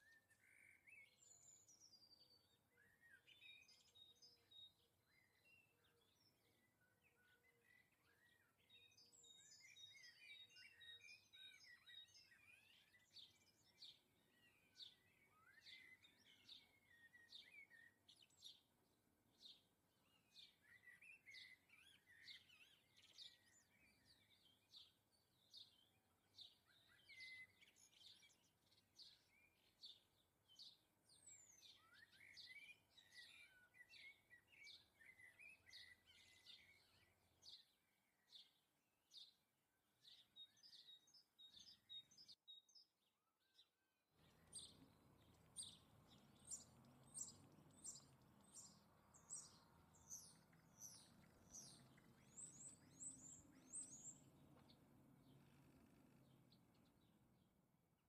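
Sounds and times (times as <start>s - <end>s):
finches chirping and twittering: 0.0s - 39.4s, 40.0s - 42.8s, 43.4s - 57.4s.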